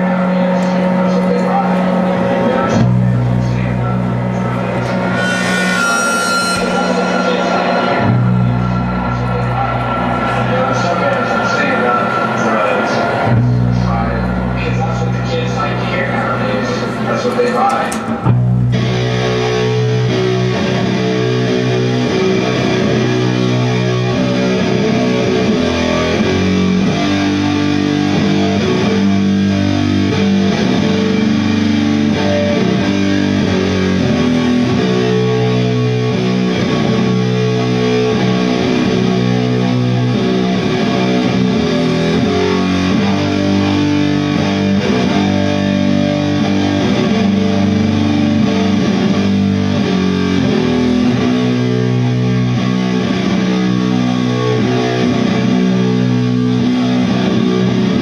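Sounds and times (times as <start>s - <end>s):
distorted metal guitars and bass: 0.0s - 58.0s.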